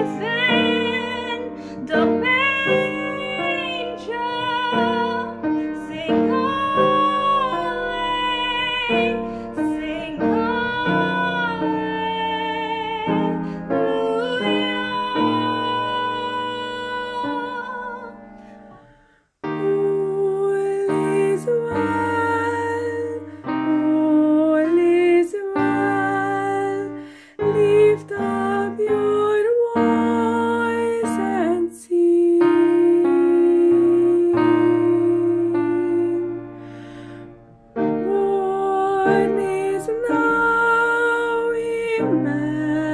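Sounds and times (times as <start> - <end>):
woman singing over digital piano: 0.0 - 18.8, 19.4 - 36.8, 37.7 - 42.9
woman singing with piano: 0.0 - 18.8, 19.4 - 42.9.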